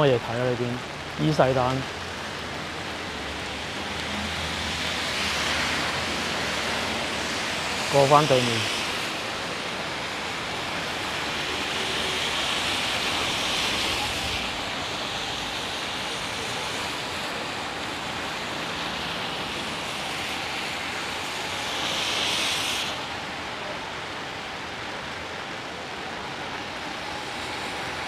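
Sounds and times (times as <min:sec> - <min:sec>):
gusting wind: 0:00.0 - 0:28.0
heavy rain hissing: 0:00.0 - 0:28.0.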